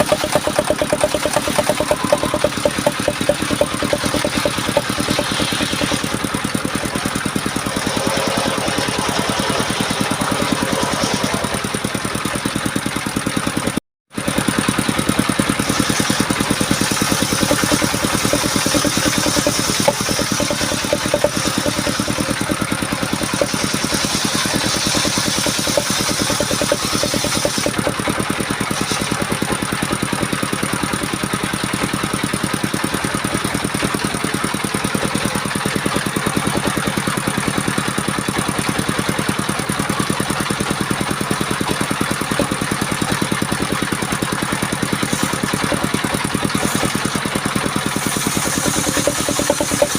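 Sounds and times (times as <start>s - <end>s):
small engine running: 0.0s - 49.9s.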